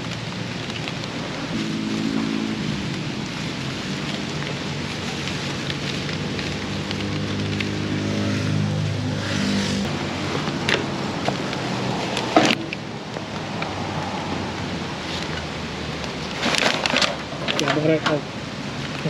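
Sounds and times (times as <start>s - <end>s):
car passing on wet street: 0.0s - 19.0s
rain hiss: 0.0s - 19.0s.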